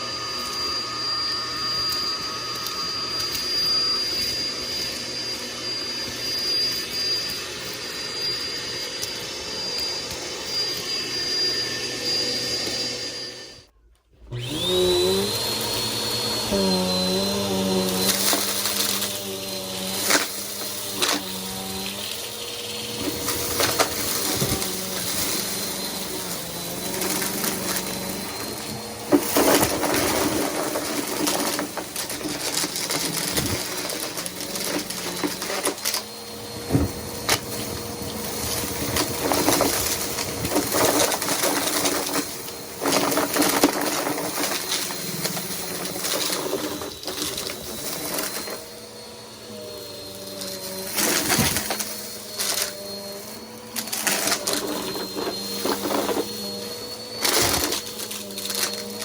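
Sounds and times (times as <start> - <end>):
vacuum cleaner whining: 0.0 - 59.0.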